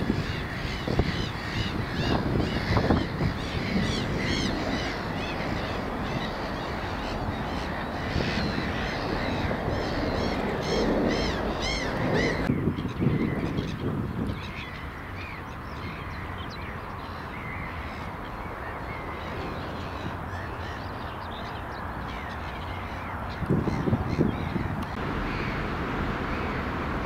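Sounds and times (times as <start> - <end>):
small birds chirping: 0.0 - 25.6
outdoor background noise: 0.0 - 27.0.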